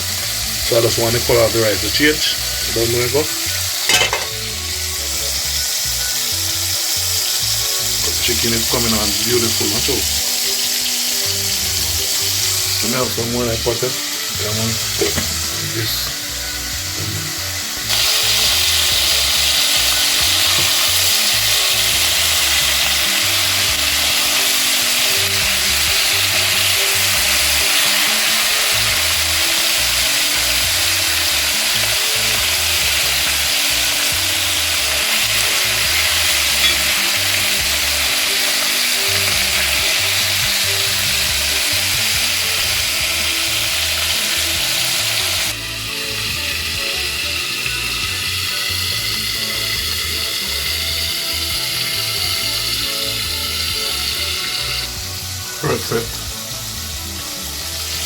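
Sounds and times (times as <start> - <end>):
chicken sizzling in a pan: 0.0 - 58.0.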